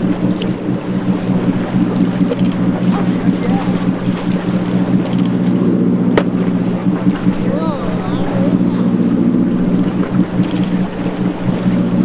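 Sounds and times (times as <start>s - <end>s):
boat engine droning: 0.0s - 12.0s
water noise: 0.0s - 12.0s
wind: 0.0s - 12.0s.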